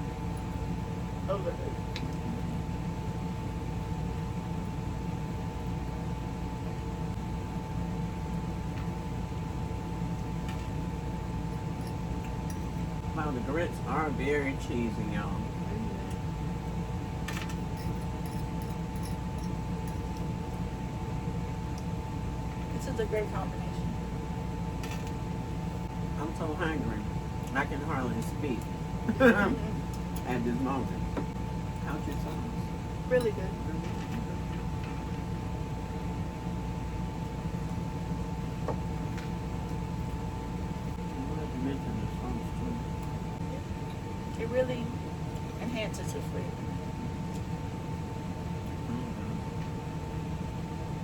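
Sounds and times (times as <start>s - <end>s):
air conditioner humming: 0.0s - 51.0s
faint steady whine: 0.0s - 51.0s.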